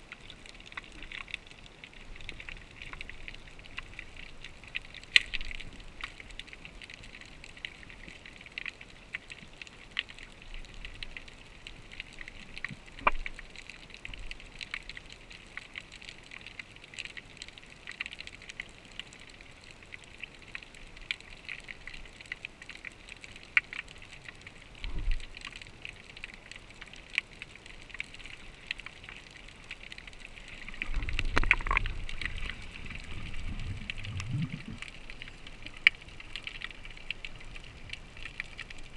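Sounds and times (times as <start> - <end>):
low rumble of moving water: 0.0 - 38.9
underwater hiss with crackling: 0.0 - 38.9.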